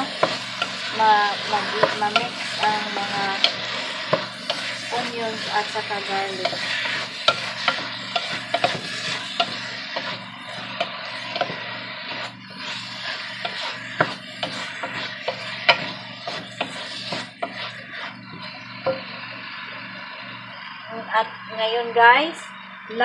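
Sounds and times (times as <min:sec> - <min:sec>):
wooden spoon scraping a pot: 0:00.0 - 0:18.6
meat sizzling in oil: 0:00.0 - 0:19.2.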